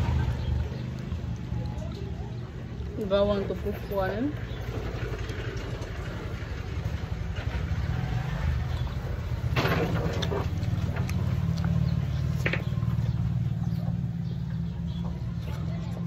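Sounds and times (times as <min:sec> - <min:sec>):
engine low pulsing hum: 0:00.0 - 0:16.0.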